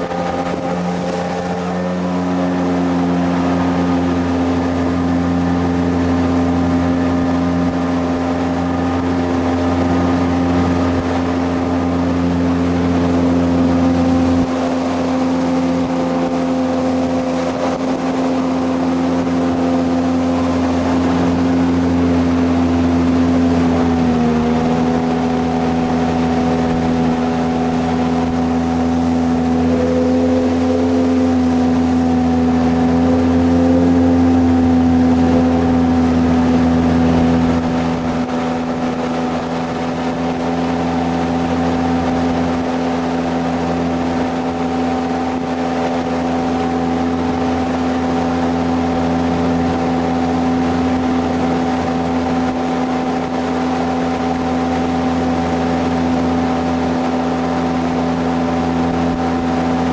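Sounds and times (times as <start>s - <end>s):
jet boat engine: 0.0s - 59.9s.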